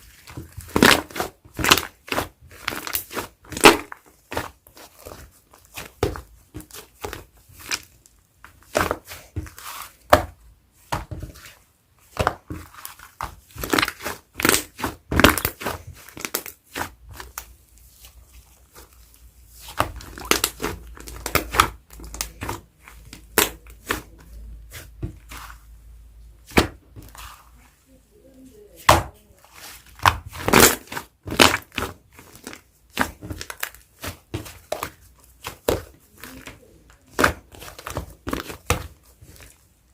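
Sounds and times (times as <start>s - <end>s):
slime squished by hand: 0.0s - 27.7s, 28.7s - 39.9s.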